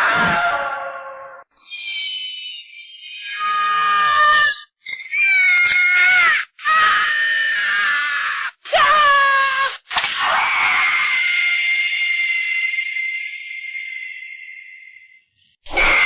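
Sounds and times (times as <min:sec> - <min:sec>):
high-pitched cartoon screams: 0:00.0 - 0:14.5, 0:15.7 - 0:16.0.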